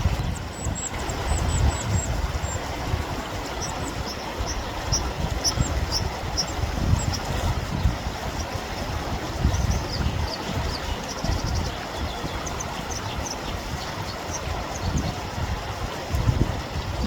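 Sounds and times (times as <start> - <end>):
birds peeping: 0.0 - 15.3
mountain torrent rushing: 0.0 - 17.0.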